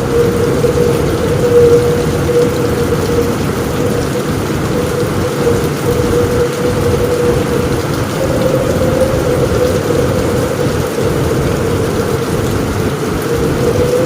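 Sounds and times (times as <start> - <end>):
heavy rain on a roof: 0.0 - 14.0
low rumble of thunder: 0.0 - 14.0.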